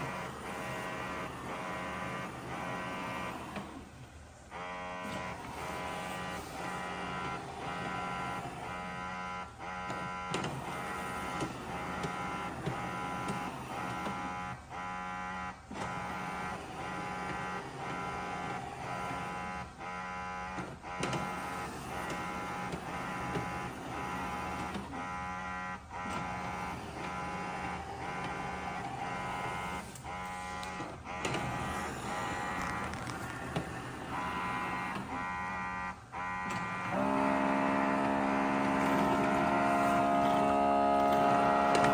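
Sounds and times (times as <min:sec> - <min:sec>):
robot vacuum motor whine: 0:00.0 - 0:41.9.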